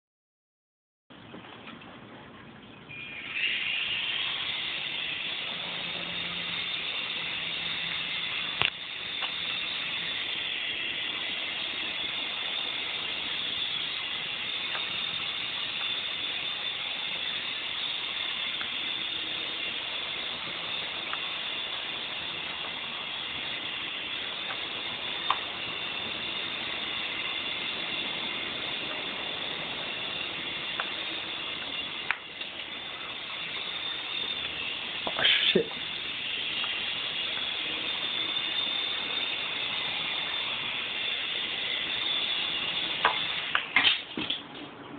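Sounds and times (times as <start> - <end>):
rc helicopter rotor whine: 2.9 - 44.2.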